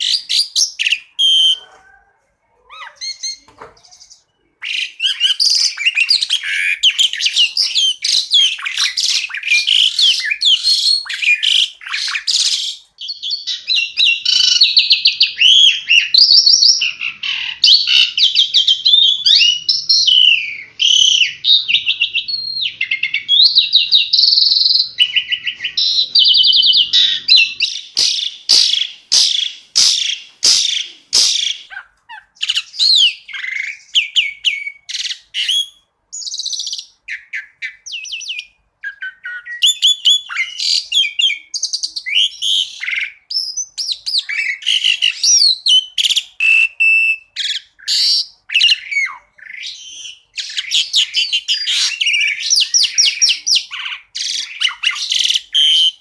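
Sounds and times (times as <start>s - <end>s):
starling singing trills and whistles: 0.0s - 2.0s, 2.6s - 56.0s.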